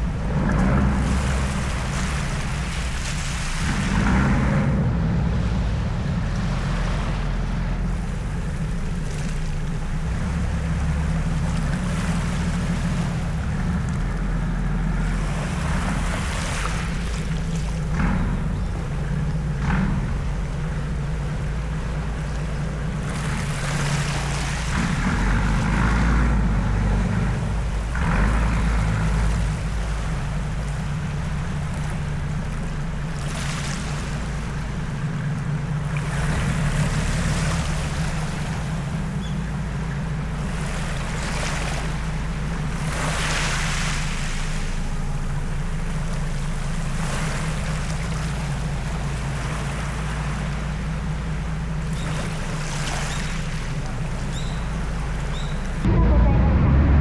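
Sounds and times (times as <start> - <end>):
boat engine humming: 0.0 - 57.0
water splashing along hull: 0.0 - 57.0.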